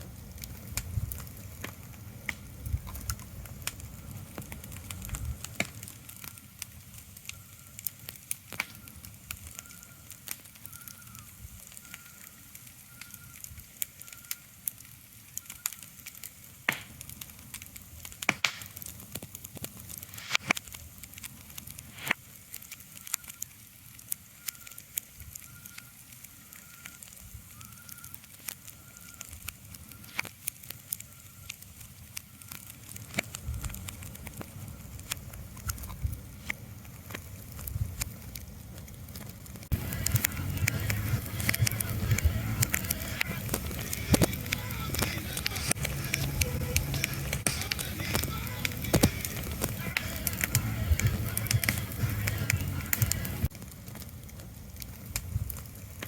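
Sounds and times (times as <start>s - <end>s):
crackles and sharp pops: 0.0s - 56.0s.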